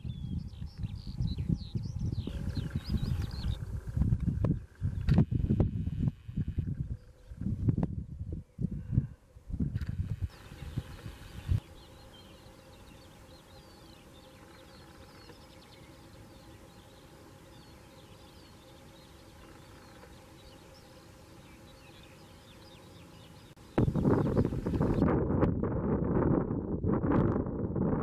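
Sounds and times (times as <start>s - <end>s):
birds chirping: 0.0s - 7.7s, 9.8s - 25.1s
wind buffeting microphone: 0.0s - 21.0s, 21.7s - 28.0s.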